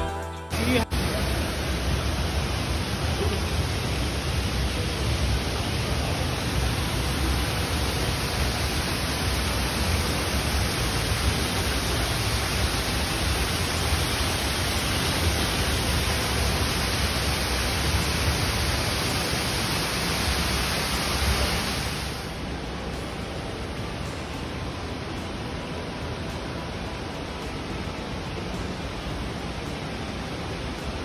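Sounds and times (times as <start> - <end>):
waterfall rushing into pond: 0.5 - 31.0.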